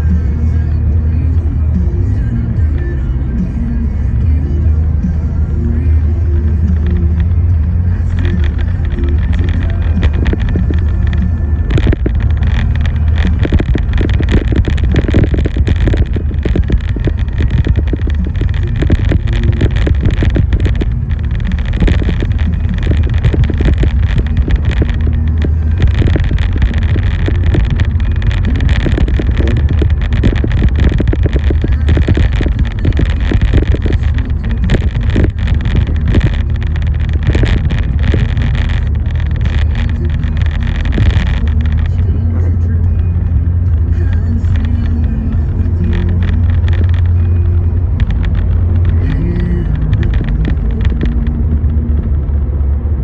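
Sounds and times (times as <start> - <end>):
engine and road rumble: 0.0 - 53.0
rain ticking on vehicle: 0.0 - 53.0.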